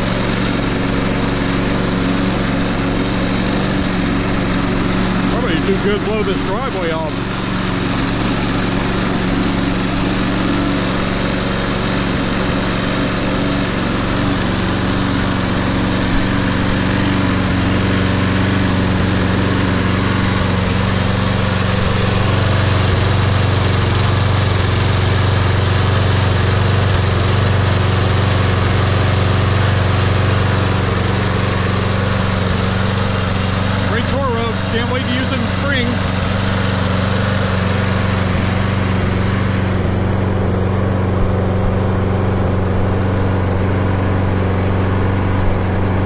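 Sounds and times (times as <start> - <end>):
lawn mower engine running: 0.0 - 46.0.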